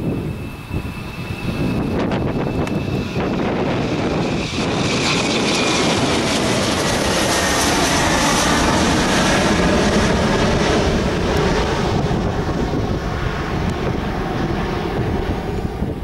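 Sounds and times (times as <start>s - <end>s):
faint engine whine: 0.0s - 16.0s
jet engine roar: 0.0s - 16.0s.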